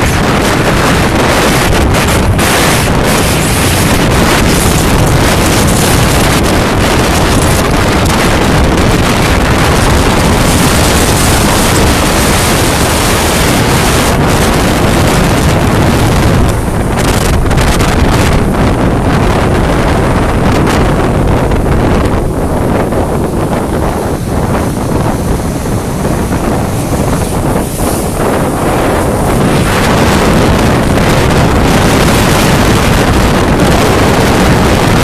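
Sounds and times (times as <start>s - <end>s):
wind blowing across microphone: 0.0s - 35.0s.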